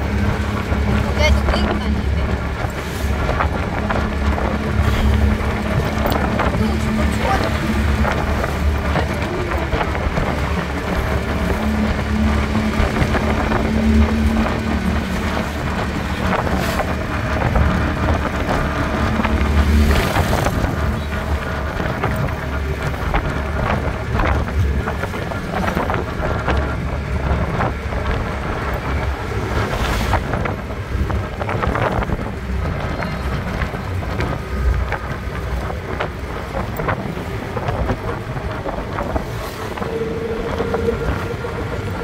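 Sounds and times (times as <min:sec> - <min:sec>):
road and engine noise: 0:00.0 - 0:42.0
wind buffeting microphone: 0:00.0 - 0:42.0.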